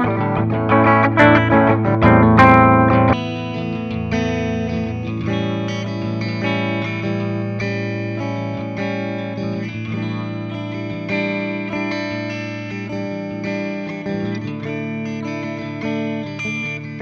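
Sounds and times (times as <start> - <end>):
overdriven electric guitar notes and chords: 0.0 - 17.0.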